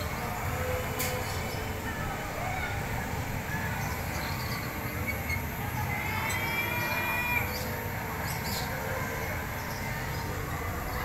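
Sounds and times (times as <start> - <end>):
amusement ride rumble: 0.0 - 11.0.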